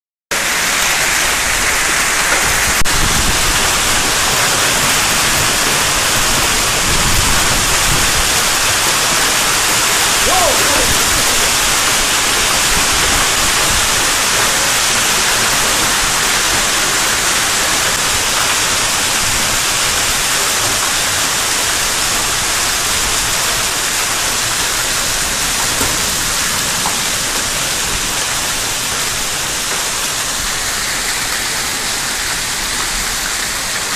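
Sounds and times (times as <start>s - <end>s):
hail and rain on pavement: 0.3s - 33.9s.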